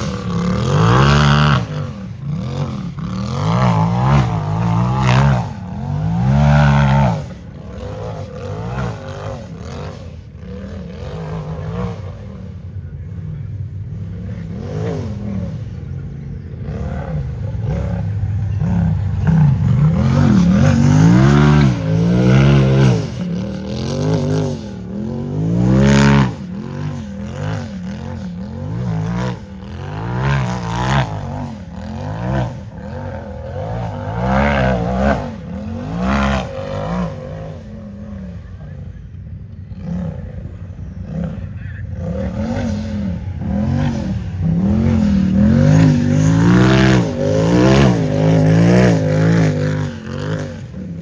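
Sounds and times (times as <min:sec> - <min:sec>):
engine revving hard: 0:00.0 - 0:12.5, 0:14.2 - 0:38.7, 0:41.0 - 0:51.0.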